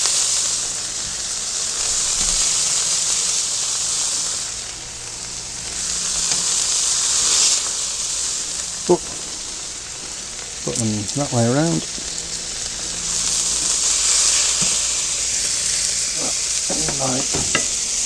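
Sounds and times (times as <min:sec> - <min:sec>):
burger patties sizzling on a griddle: 0:00.0 - 0:18.0.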